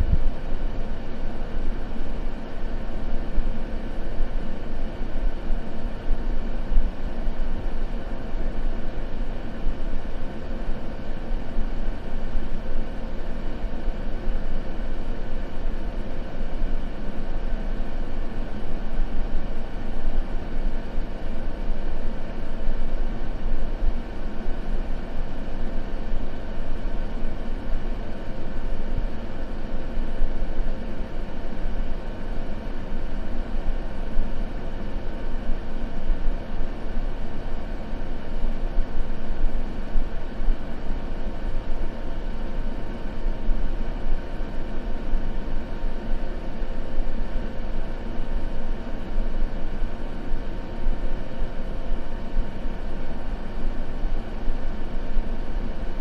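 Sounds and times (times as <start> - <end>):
low rumbling hiss: 0.0 - 56.0.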